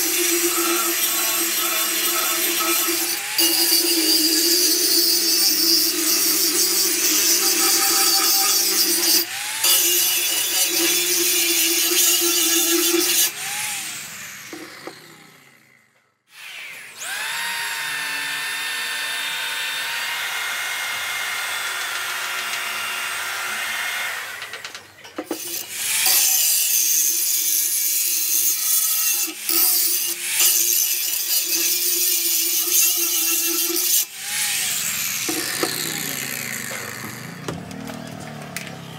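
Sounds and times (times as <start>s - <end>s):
electric drill with wire brush: 0.0s - 37.4s
angle grinder grinding steel: 0.0s - 38.9s.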